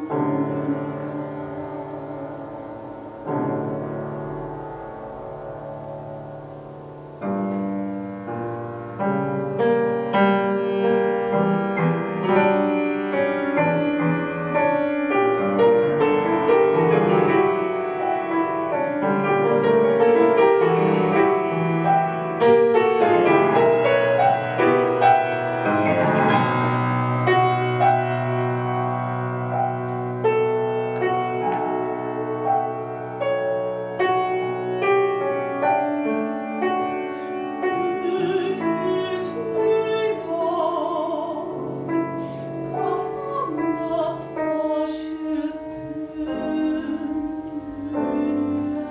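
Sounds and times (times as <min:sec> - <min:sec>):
solo piano playing: 0:00.0 - 0:48.9.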